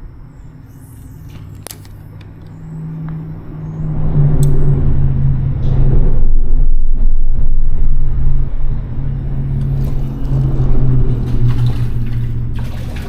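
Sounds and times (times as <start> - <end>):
traffic rumble on bridge overhead: 0.0 - 13.0.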